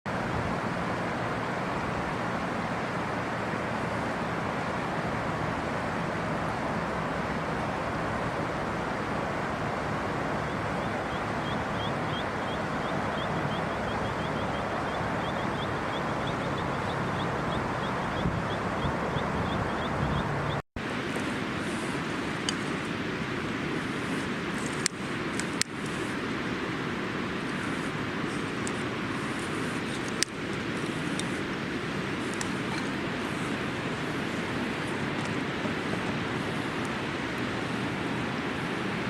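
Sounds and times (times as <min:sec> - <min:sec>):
river water rushing: 0:00.1 - 0:39.0.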